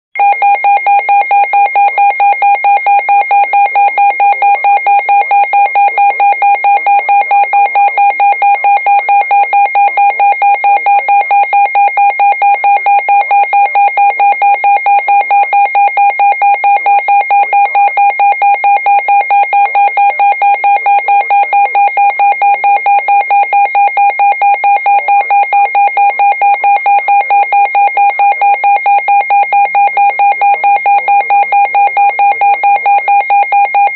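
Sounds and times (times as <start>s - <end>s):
pulsing electronic alarm tone: 0.2s - 33.9s.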